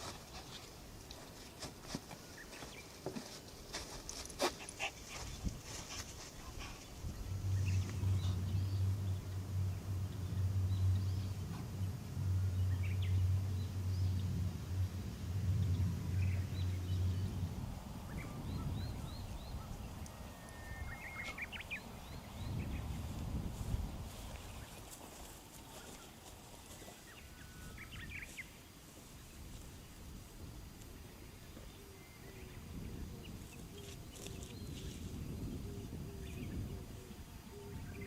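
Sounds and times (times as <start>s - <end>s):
low steady hum: 3.4s - 38.0s.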